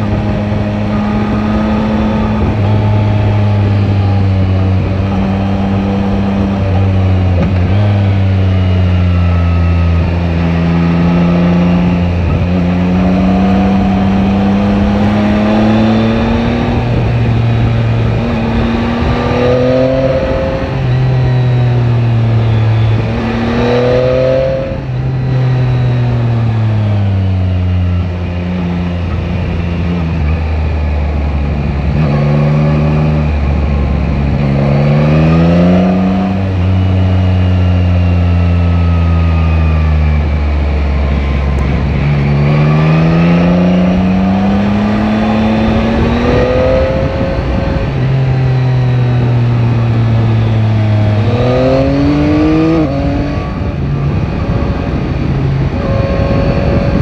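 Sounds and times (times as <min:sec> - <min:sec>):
motorcycle engine revving: 0:00.0 - 0:57.0
wind noise: 0:00.0 - 0:57.0.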